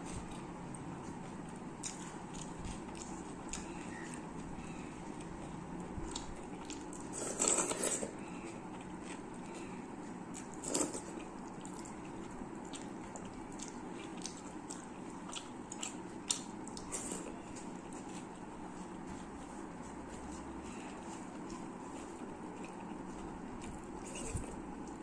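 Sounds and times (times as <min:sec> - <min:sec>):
chewing and wet mouth noises: 0:00.0 - 0:07.1, 0:08.2 - 0:25.0.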